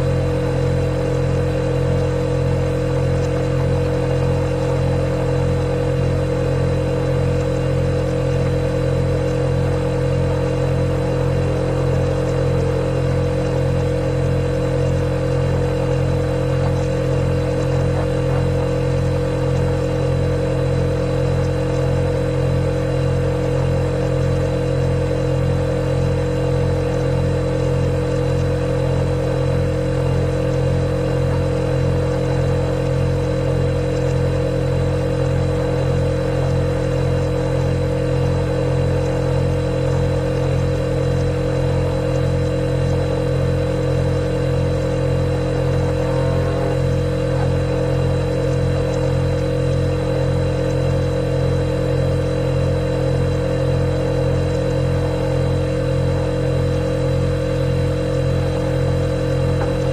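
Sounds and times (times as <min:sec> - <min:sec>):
refrigerator humming: 0:00.0 - 0:59.9.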